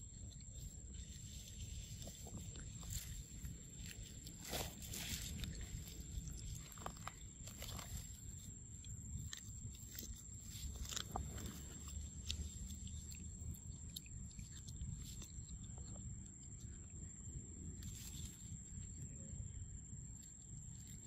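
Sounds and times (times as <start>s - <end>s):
monkey chewing crunchy food: 0.0s - 19.1s.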